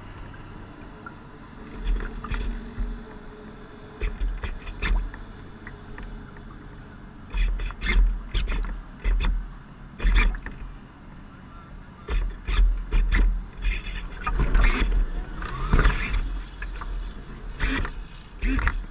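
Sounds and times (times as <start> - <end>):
small waves splashing against hull: 0.0 - 11.0, 12.0 - 18.9
steady low rumble: 0.0 - 18.9.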